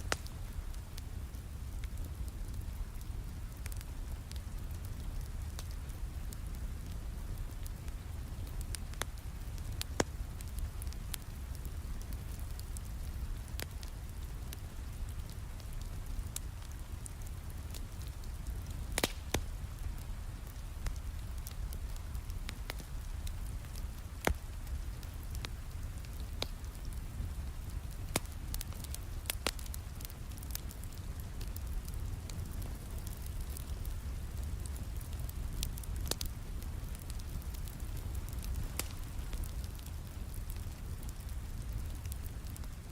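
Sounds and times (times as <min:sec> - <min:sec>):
sharp pops from fire: 0:00.0 - 0:42.8
wood fire crackling: 0:00.0 - 0:42.9.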